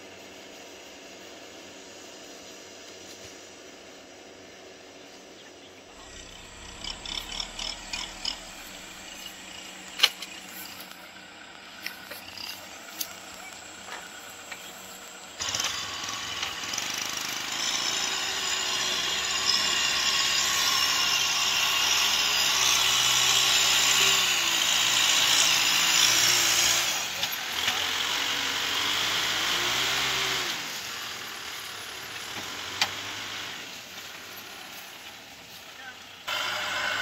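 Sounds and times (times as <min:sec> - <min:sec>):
tractor diesel engine pulling: 0:00.0 - 0:37.0.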